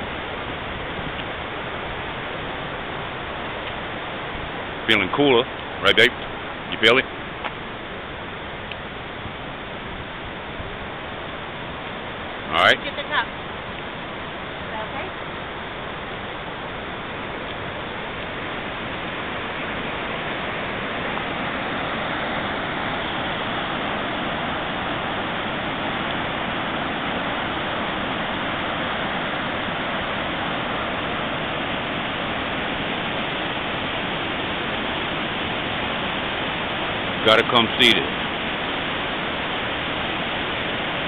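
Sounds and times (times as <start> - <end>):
whitewater rushing: 0.0 - 41.0.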